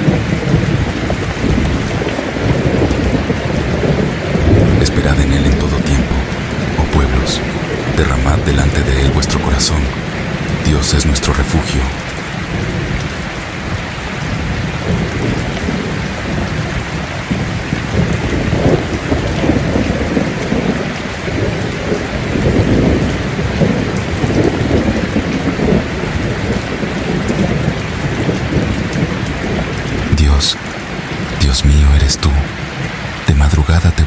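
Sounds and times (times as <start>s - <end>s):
low rolling thunder: 0.0s - 31.4s
steady rainfall: 0.0s - 34.0s.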